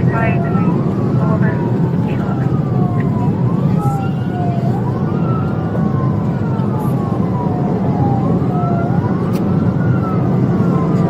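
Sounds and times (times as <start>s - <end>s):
car driving at speed: 0.0s - 11.0s
police siren wailing: 0.0s - 11.0s.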